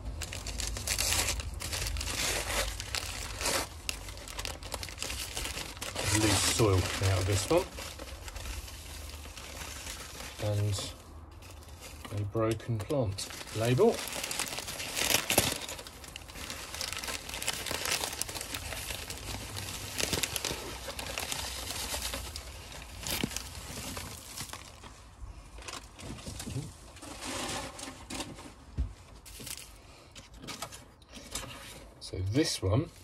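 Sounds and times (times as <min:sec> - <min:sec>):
newspaper crumpling: 0:00.0 - 0:28.4, 0:29.2 - 0:29.8
bubble wrap rustling: 0:00.0 - 0:31.8.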